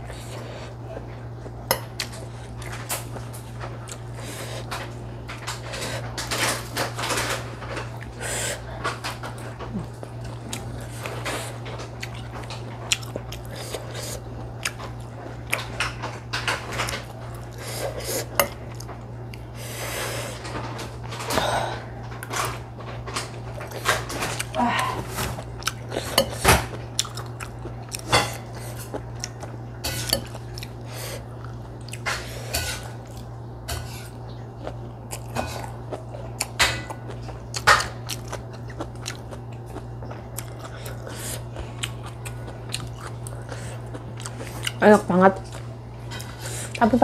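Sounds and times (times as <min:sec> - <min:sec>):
steady low hum: 0:00.0 - 0:47.0
chewing: 0:00.1 - 0:19.5, 0:22.1 - 0:33.3, 0:34.0 - 0:44.8.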